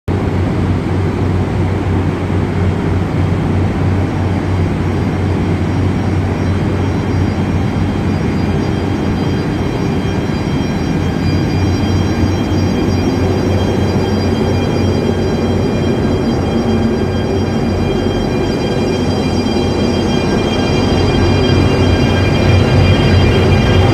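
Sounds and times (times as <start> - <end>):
electric locomotive humming: 0.1 - 23.9
thin high whine: 0.1 - 23.9.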